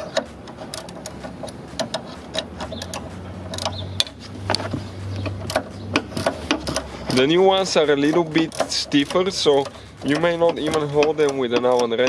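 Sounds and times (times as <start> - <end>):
ratcheting wrench clicking: 0.0 - 12.0.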